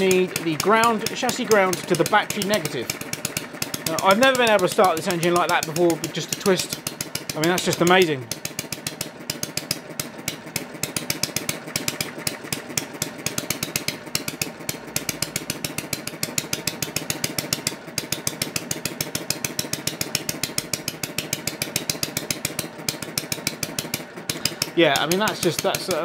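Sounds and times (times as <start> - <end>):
small engine clattering: 0.0 - 26.0.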